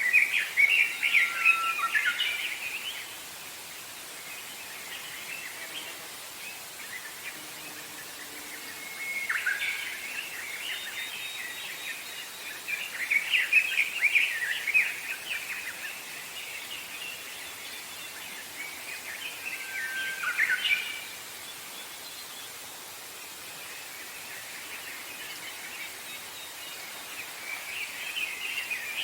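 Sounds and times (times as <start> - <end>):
background hiss: 0.0 - 29.0
songbirds singing: 0.0 - 29.0.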